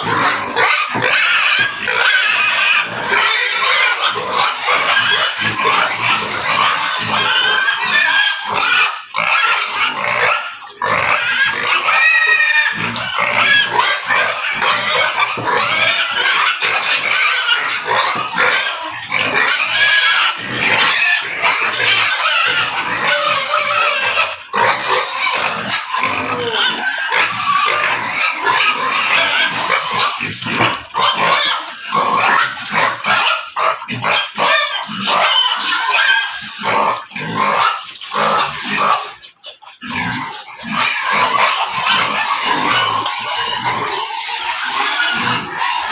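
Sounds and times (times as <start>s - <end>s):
pigs grunting: 0.0s - 45.9s
pigs squealing: 0.0s - 45.9s.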